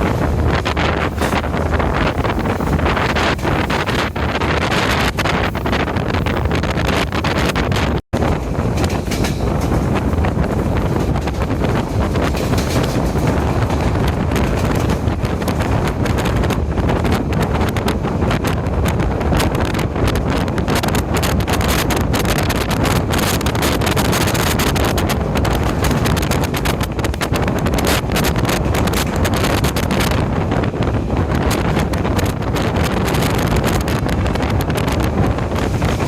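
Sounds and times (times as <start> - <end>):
train rumbling at speed: 0.0 - 36.0
wind buffeting microphone: 0.0 - 36.0.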